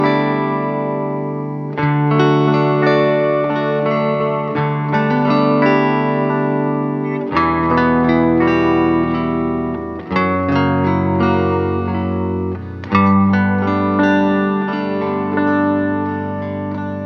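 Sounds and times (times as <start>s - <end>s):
guitar chords through effects: 0.0s - 17.0s.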